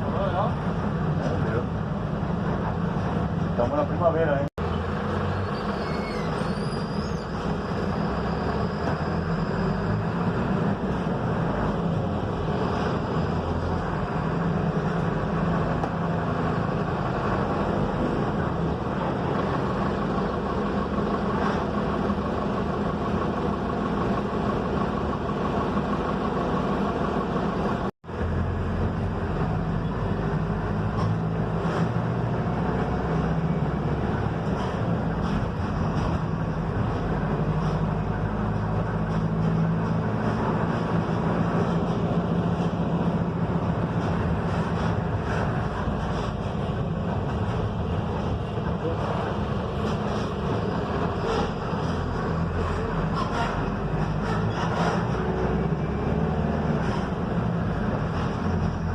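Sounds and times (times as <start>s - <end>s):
diesel bus engine hum: 0.0s - 58.9s
road and body noise: 0.0s - 58.9s.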